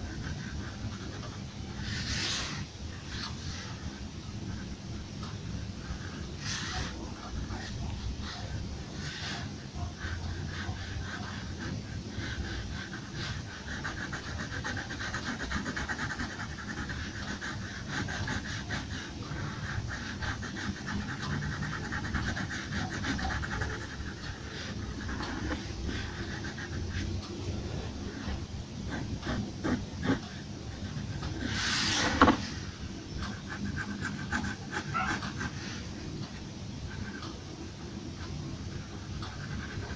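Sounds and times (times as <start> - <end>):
pencil scratching on paper: 0.0 - 37.3, 38.2 - 39.9.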